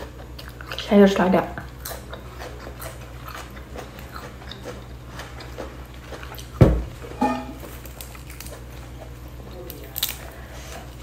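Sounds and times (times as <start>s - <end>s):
chewing lettuce: 0.0s - 6.6s, 7.6s - 11.0s.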